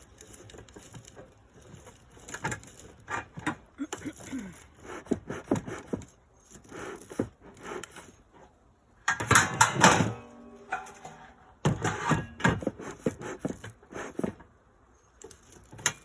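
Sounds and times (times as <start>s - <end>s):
objects clattering and rustling: 0.0s - 16.0s.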